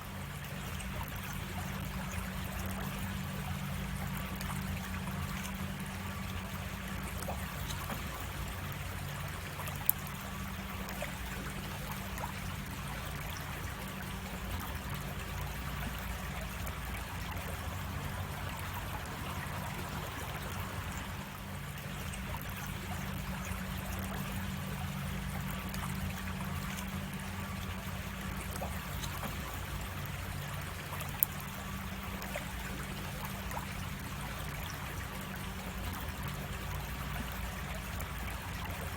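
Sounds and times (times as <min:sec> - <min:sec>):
creek water flowing: 0:00.0 - 0:38.9.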